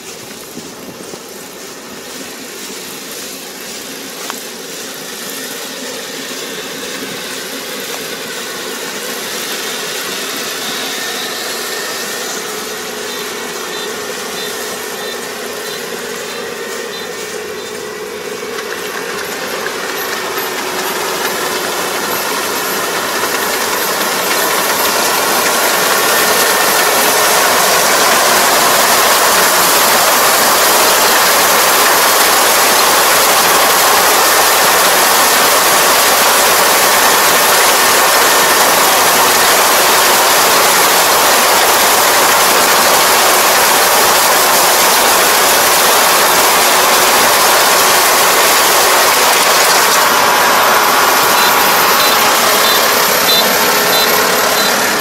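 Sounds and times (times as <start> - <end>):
combine harvester engine and threshing: 0.0 - 55.0.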